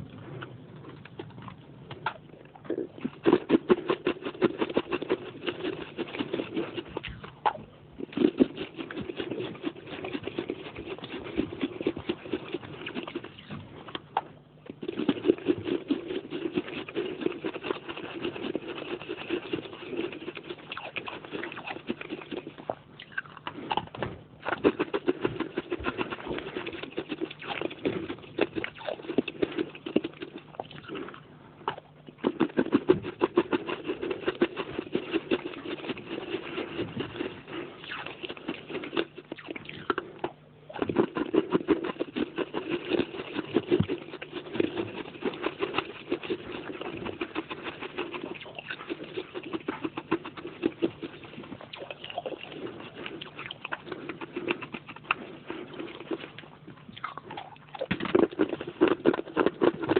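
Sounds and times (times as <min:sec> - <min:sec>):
chewing crunchy clay: 0:00.0 - 0:59.9.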